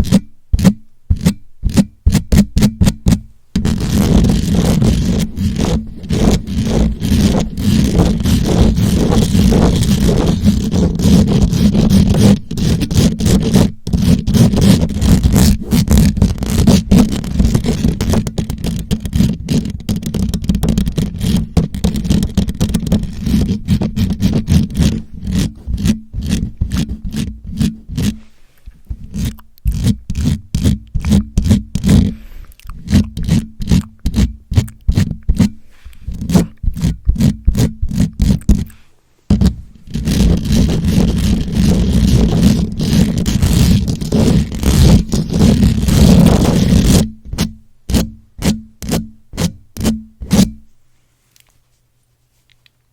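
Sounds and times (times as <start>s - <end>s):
scratching on a microphone: 0.0s - 52.6s.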